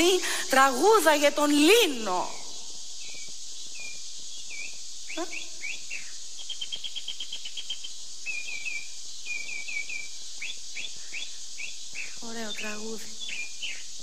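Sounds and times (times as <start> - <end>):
bird trill: 0.0 - 14.0
small birds chirping: 0.0 - 14.0
steady high hiss: 0.0 - 14.0.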